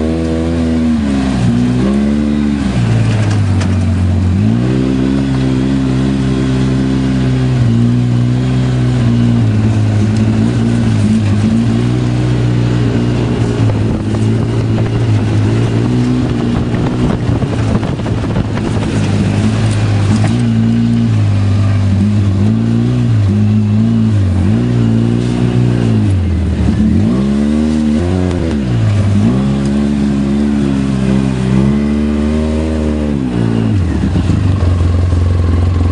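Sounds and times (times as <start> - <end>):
vehicle engine revving: 0.0 - 35.9.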